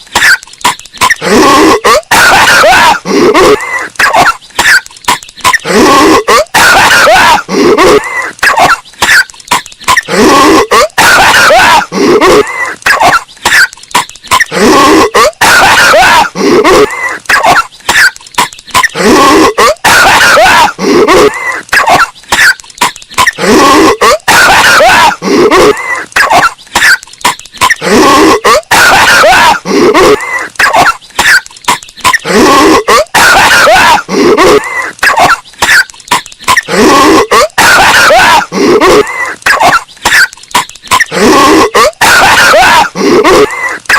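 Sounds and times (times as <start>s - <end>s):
cartoon cough: 0.1s - 43.9s.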